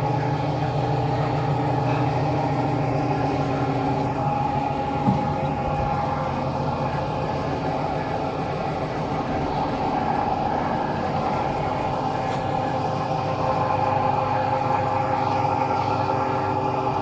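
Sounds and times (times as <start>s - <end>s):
mechanical drone with whine: 0.0s - 17.0s.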